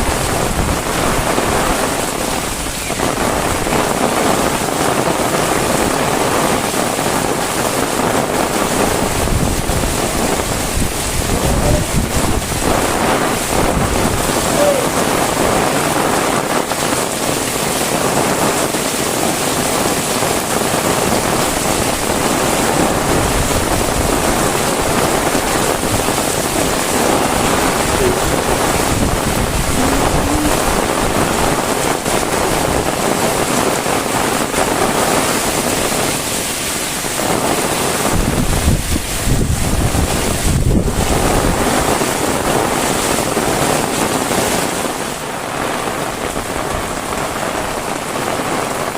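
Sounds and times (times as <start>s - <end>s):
heavy rain downpour: 0.0s - 48.9s
wind buffeting microphone: 0.0s - 48.9s.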